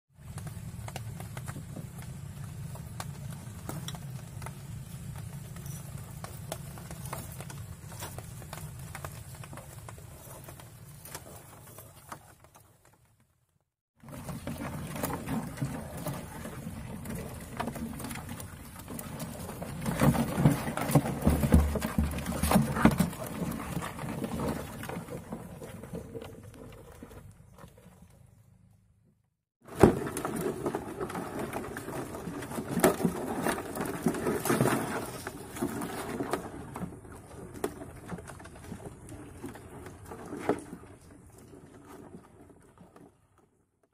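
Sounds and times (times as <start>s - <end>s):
crabs scrabbling in plastic tub: 0.2s - 13.2s, 14.0s - 28.3s, 29.6s - 43.9s.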